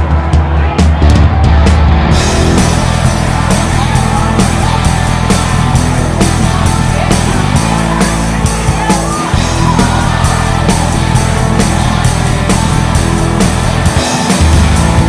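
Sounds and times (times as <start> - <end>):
rock music with drum beat: 0.0 - 15.0.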